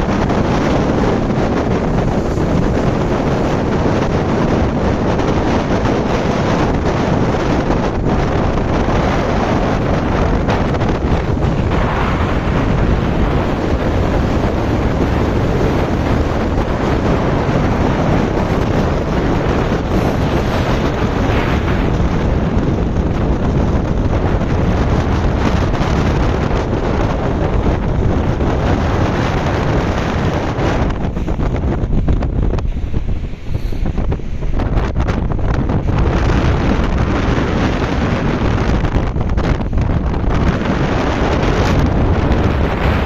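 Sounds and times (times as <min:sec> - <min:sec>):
rough sea surf: 0:00.0 - 0:43.0
wind buffeting microphone: 0:00.0 - 0:43.0.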